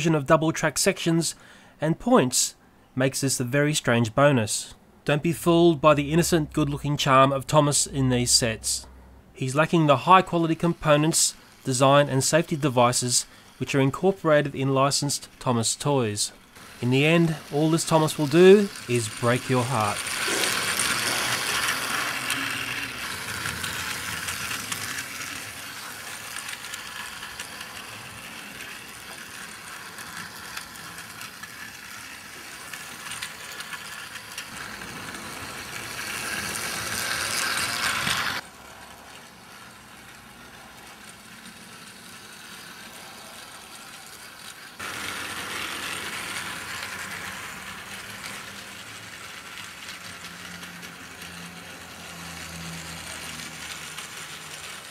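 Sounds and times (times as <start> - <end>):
toy train motor whirring: 9.6 - 54.9.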